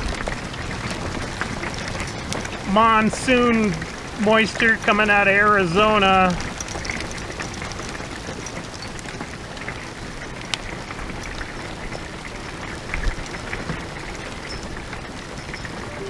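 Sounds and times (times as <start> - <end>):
hailstones ticking: 0.0 - 16.0
rain hissing on roof: 0.0 - 16.0.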